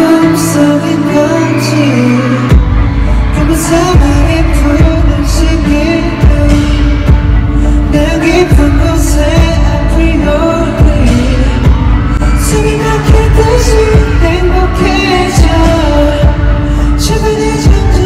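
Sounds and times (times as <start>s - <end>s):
man singing into a microphone: 0.0s - 18.0s
pop backing track with heavy beat: 0.0s - 18.0s.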